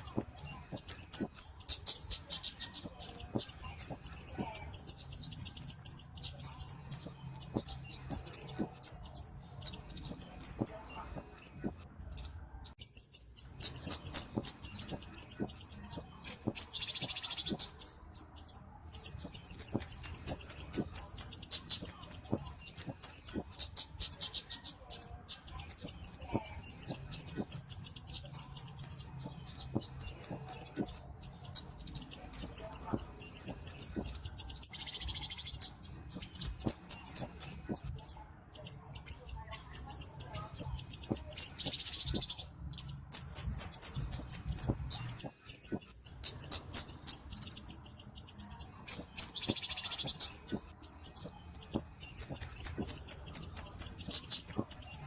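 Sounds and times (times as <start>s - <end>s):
bird song of high thin chips: 0.0s - 55.0s
buzzy harsh bird notes: 0.0s - 55.0s.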